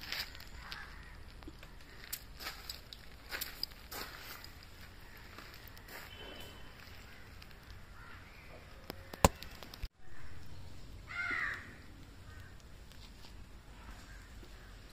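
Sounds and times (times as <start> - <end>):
faint outdoor background noise: 0.0 - 14.9.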